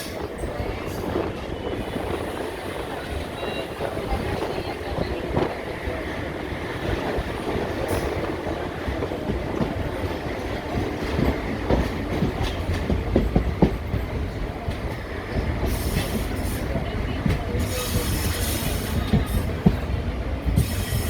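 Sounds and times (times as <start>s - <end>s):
passenger coach rumbling on track: 0.0s - 21.0s.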